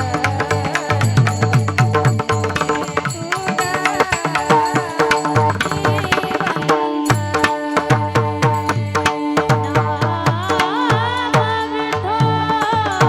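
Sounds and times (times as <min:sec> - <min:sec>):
hand drum beat: 0:00.0 - 0:11.6.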